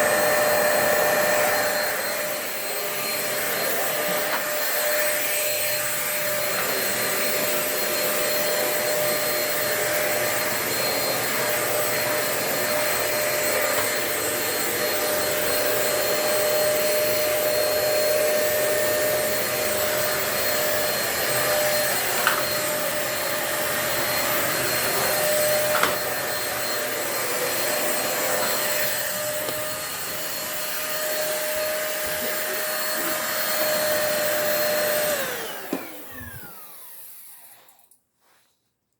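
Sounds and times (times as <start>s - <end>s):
vacuum cleaner motor whine: 0.0s - 38.0s.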